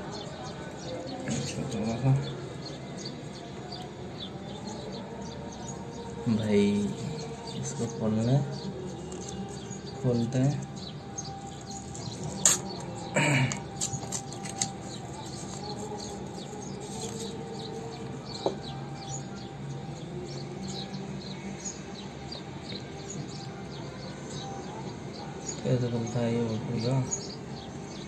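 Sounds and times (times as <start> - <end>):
birds chirping faintly: 0.0 - 28.0.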